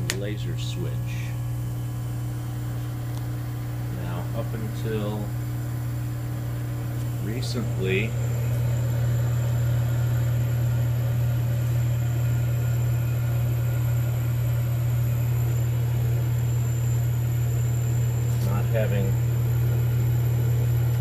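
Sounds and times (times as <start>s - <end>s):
pumps humming: 0.0s - 21.0s.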